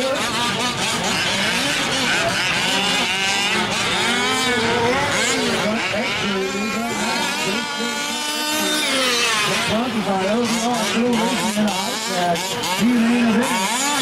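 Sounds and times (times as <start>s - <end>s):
small two-stroke engines whining: 0.0s - 14.0s.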